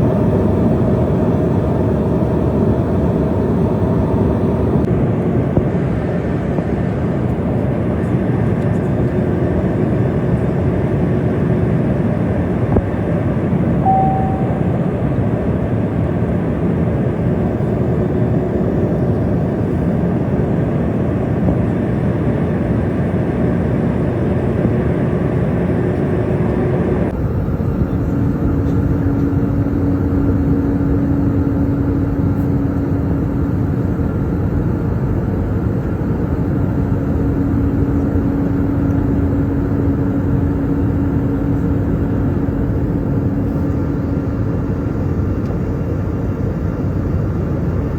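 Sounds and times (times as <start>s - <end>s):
jet engine cabin rush: 0.0s - 47.9s
steady low hum: 0.0s - 47.9s.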